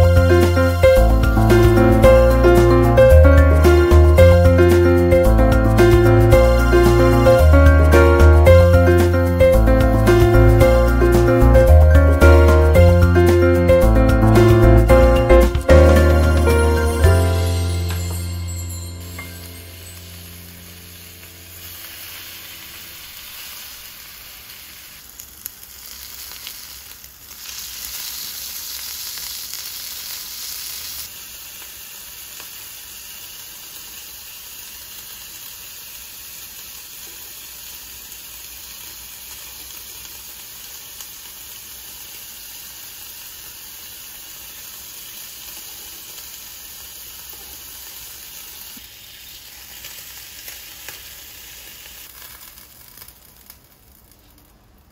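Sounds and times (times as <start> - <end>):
meat sizzling in a pan: 0.0 - 13.7, 14.5 - 54.9.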